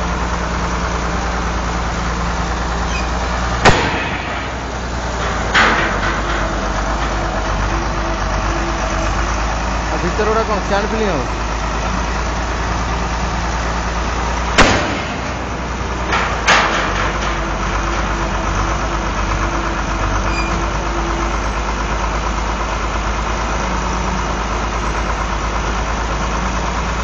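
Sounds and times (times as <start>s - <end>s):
heavy machinery engine idling: 0.0s - 27.0s.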